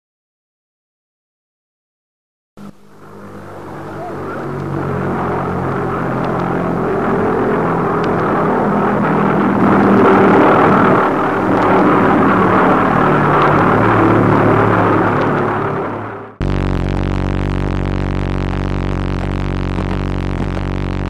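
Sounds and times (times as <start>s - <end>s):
pulsejet engine drone: 2.6s - 21.0s.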